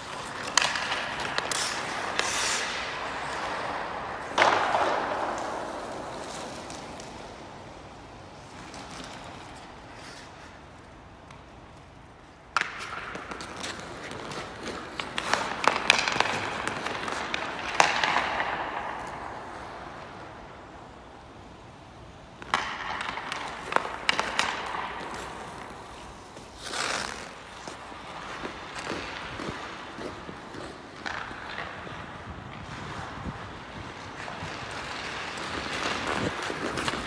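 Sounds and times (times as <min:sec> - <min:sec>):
skates scraping on ice: 0:00.0 - 0:37.0
stick and puck clacks: 0:00.0 - 0:37.0.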